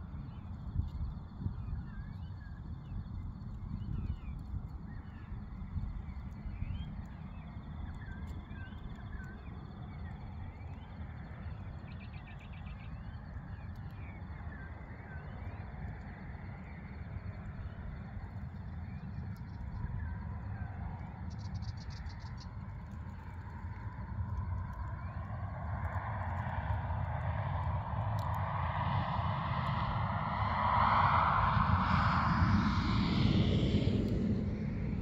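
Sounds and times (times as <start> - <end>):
distant aircraft engine hum: 0.0 - 35.0
steady low rumble: 0.0 - 35.0.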